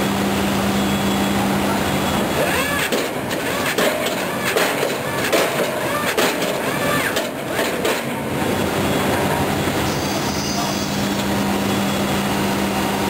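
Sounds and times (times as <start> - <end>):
piling rig squeals and clanks: 0.8 - 12.4.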